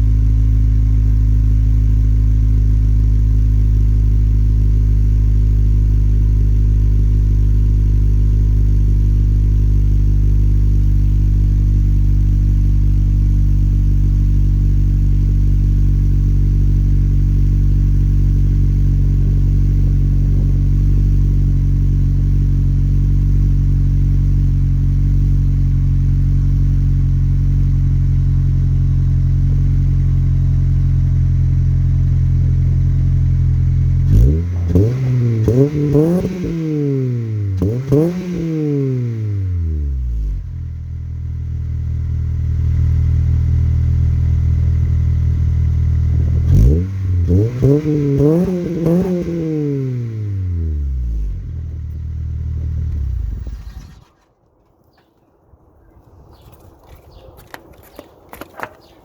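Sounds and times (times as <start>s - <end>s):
car engine idling: 0.0s - 54.2s.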